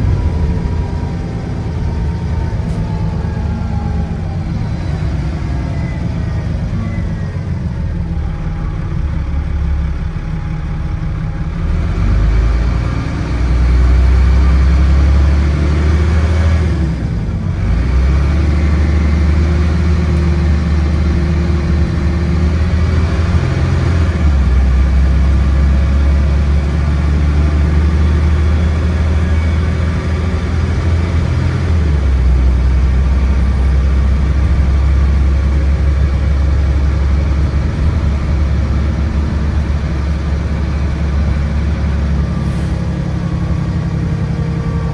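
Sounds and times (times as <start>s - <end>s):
bus diesel engine revving: 0.0s - 44.9s.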